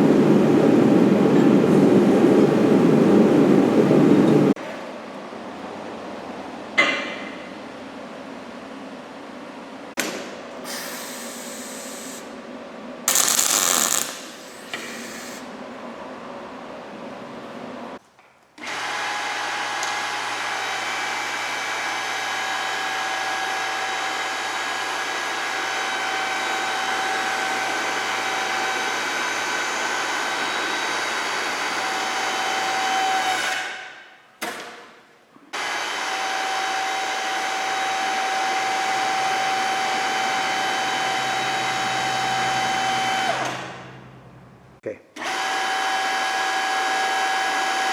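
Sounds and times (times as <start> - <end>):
workshop noise: 0.0 - 47.8.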